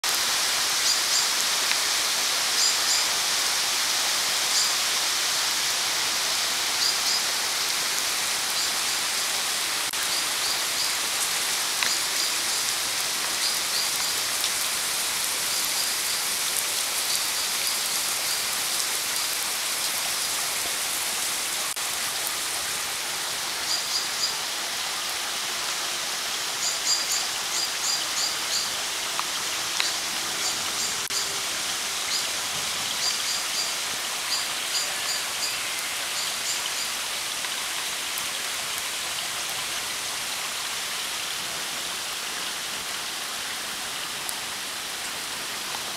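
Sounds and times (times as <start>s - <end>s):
heavy rain on grass and trees: 0.0s - 45.9s.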